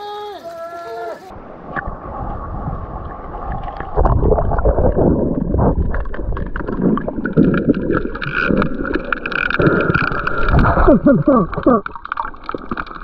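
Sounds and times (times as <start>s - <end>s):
water sloshing and splashing: 0.0s - 13.0s
water bubbling: 1.2s - 13.0s.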